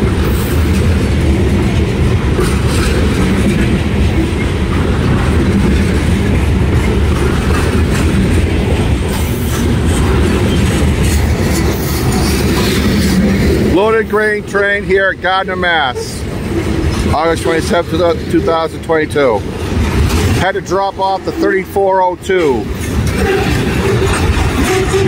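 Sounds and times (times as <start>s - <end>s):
freight train wheels rumbling: 0.0s - 25.0s
train wheel clacks: 0.0s - 25.0s.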